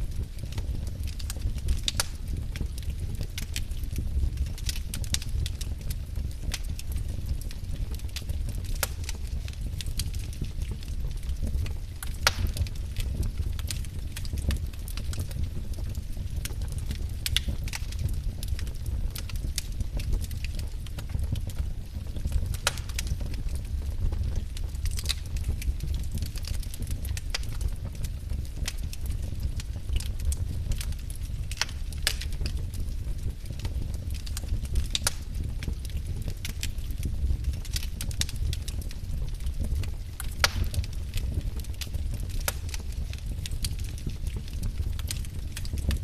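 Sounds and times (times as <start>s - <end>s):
firewood crackling and popping: 0.0s - 46.0s
low rumble of flames: 0.0s - 46.0s.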